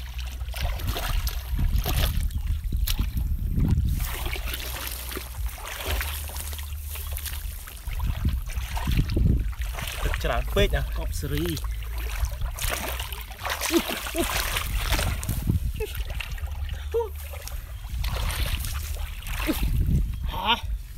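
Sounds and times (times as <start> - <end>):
muddy water sloshing and splashing: 0.0 - 20.9.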